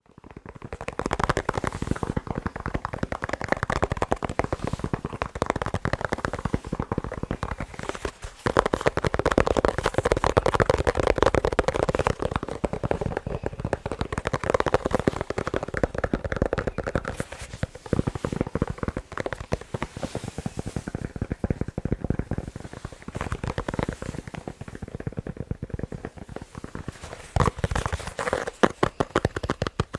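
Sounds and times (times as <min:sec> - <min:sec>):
fast tapping on sports balls: 0:00.0 - 0:29.9.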